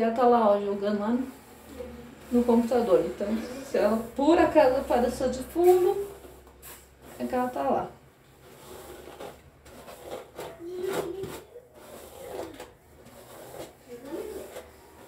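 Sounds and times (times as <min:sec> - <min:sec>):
comb rasping through hair: 0:01.2 - 0:15.0.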